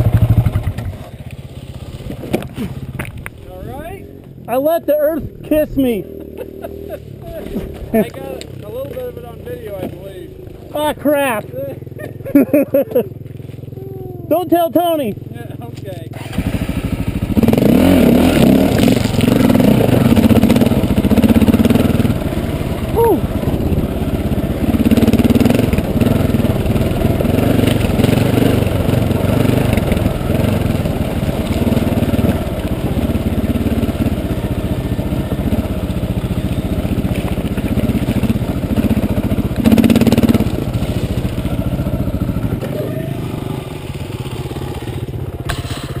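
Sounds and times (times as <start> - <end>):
dirt bike engine running: 0.0 - 46.0.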